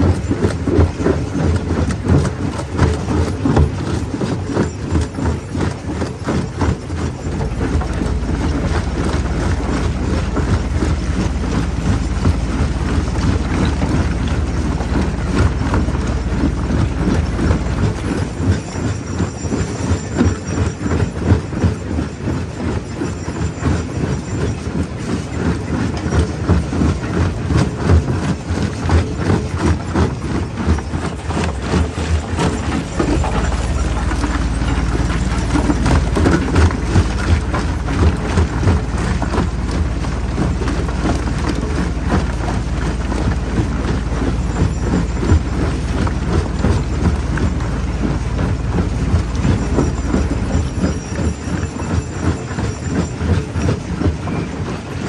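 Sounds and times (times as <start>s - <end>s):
deep steady hum: 0.0s - 19.0s, 27.2s - 53.4s
heavy machine running: 0.0s - 55.0s.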